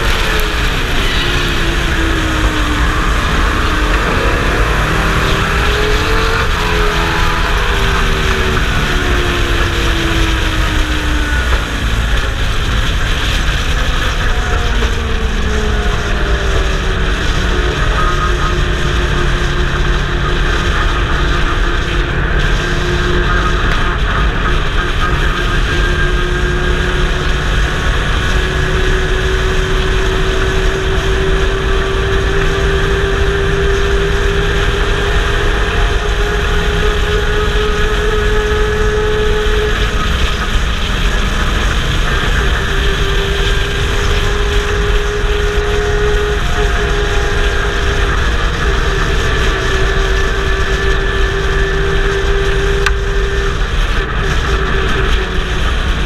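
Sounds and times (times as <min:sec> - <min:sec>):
constant rush of noise: 0:00.0 - 0:56.0
race truck engine drone: 0:00.0 - 0:56.0.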